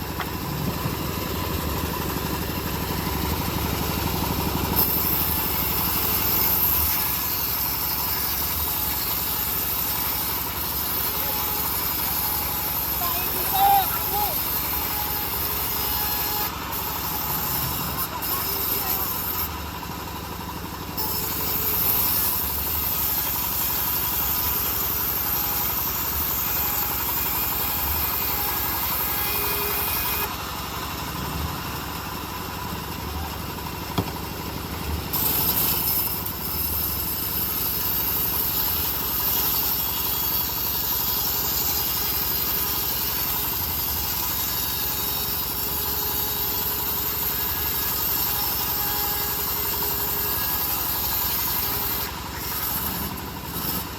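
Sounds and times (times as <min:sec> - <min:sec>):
bandsaw mill sawing log: 0:00.0 - 0:53.9.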